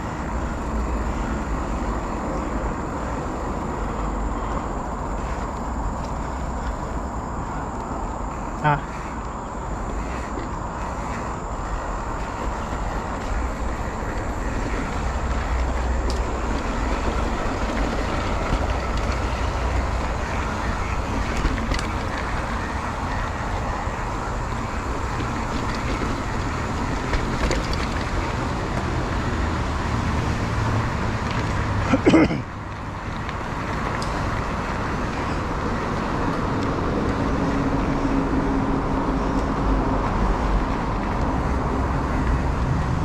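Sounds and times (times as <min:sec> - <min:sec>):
motorcycle engine rumble: 0:00.0 - 0:39.0
wind and road noise: 0:00.0 - 0:43.0.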